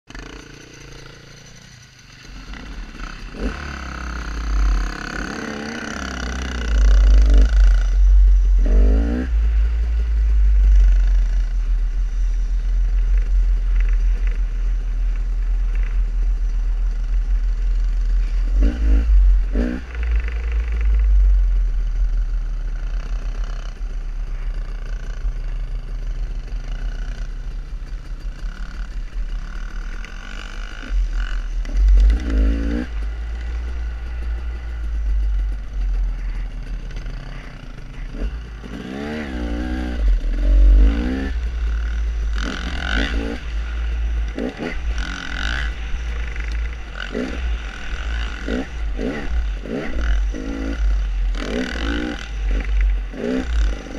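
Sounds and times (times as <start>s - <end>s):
dirt bike engine revving: 0.1s - 53.9s.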